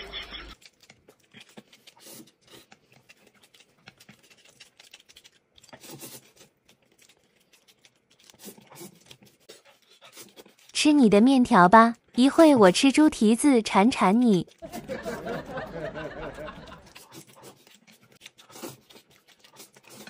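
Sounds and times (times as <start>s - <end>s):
noodles slurped and chewed: 0.1s - 20.0s.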